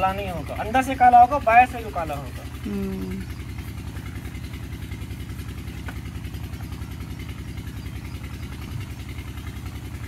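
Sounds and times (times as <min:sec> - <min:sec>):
water pump engine pulsing hum: 0:00.0 - 0:10.0.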